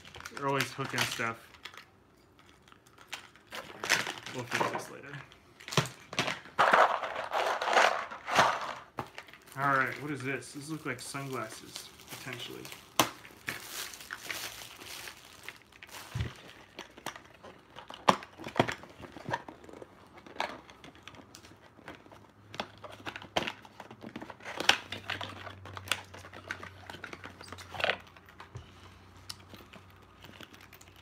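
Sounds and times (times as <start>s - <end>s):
plastic packaging crinkling: 0.0s - 28.5s.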